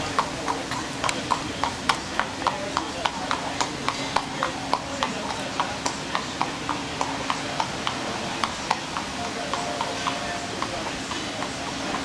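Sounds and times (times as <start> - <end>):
horse hooves clopping on asphalt: 0.0 - 12.0.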